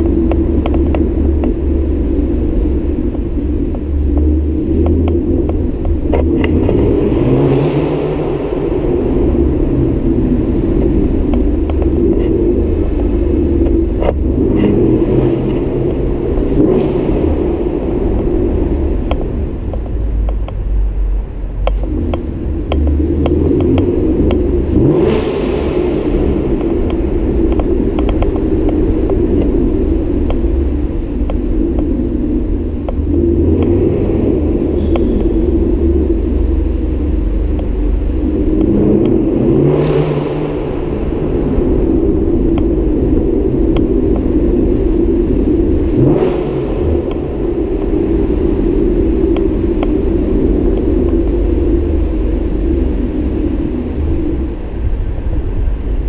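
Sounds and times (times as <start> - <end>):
car exhaust rumble: 0.0 - 56.0.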